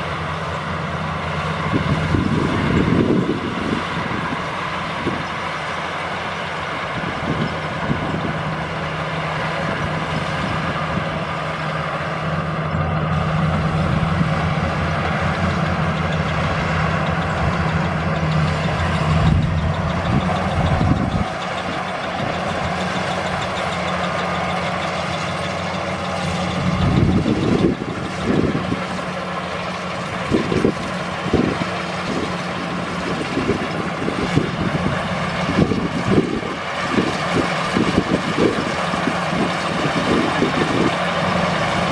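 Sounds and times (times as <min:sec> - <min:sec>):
harvester engine drone: 0:00.0 - 0:41.9
threshing machinery clatter: 0:00.1 - 0:41.9.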